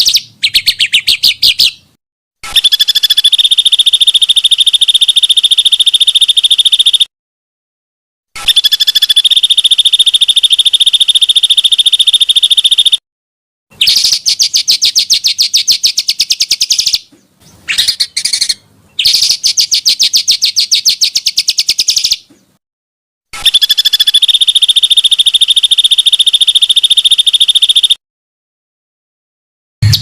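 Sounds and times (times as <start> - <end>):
songbird trilling: 0.0 - 1.8, 2.5 - 7.1, 8.4 - 13.0, 13.8 - 22.3, 23.4 - 28.0
bird chirps: 0.0 - 1.9, 2.5 - 7.1, 8.4 - 13.0, 13.7 - 22.6, 23.4 - 28.0.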